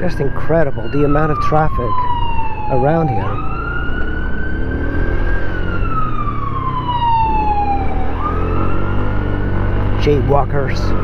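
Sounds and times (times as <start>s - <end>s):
emergency siren wailing: 0.0s - 11.0s
traffic: 0.0s - 11.0s.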